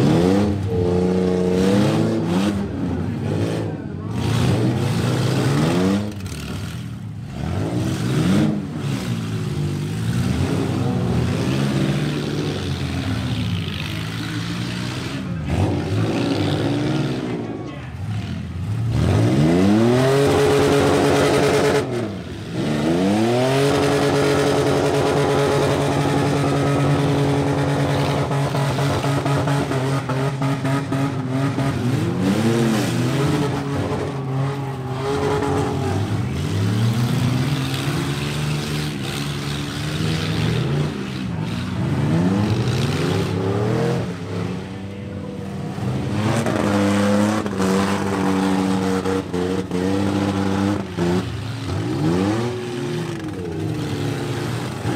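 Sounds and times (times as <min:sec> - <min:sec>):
truck engines revving hard: 0:00.0 - 0:54.9.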